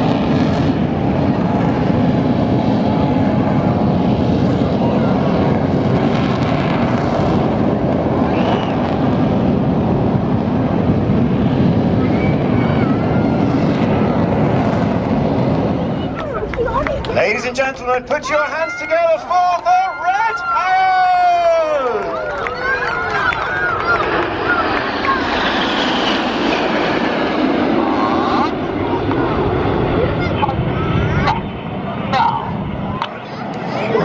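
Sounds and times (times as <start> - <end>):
jet aircraft flying over: 0.0 - 34.0.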